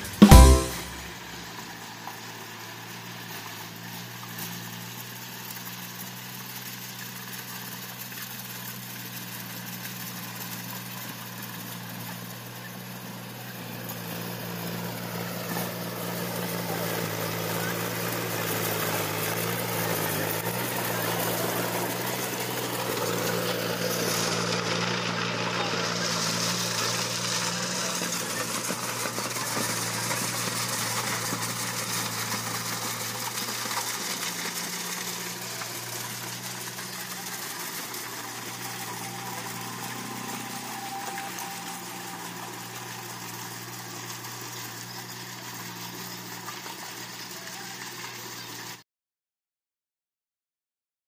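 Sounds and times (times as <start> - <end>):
tractor engine under load: 0.0 - 48.8.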